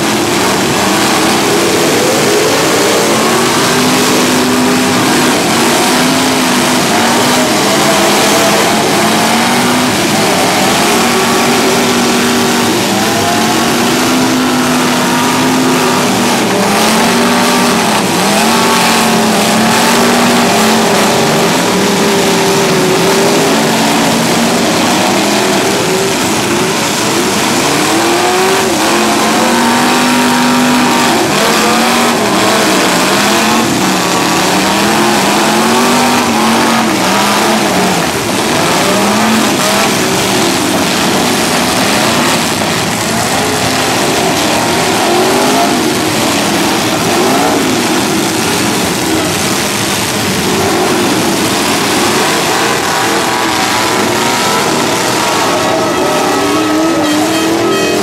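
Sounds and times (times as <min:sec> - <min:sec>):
car engines revving: 0:00.0 - 0:58.0
loud continuous din: 0:00.0 - 0:58.0.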